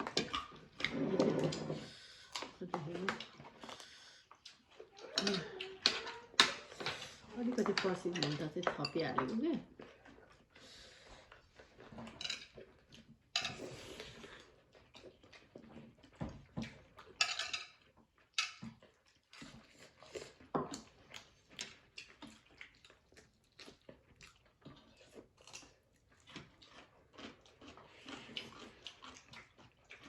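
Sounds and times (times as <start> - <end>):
wet chewing and lip smacking: 2.0 - 7.3, 9.7 - 17.2, 17.8 - 30.0.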